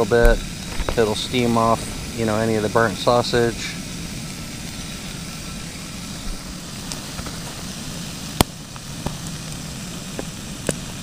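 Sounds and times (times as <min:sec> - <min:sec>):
camp stove burner hissing: 0:00.0 - 0:11.0
sausages sizzling in a pan: 0:00.0 - 0:11.0.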